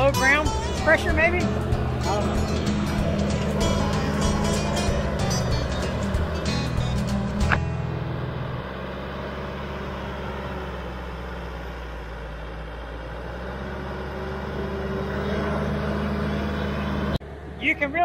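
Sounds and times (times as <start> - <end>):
diesel engine running: 0.0 - 18.0
dozer tracks moving: 0.0 - 18.0.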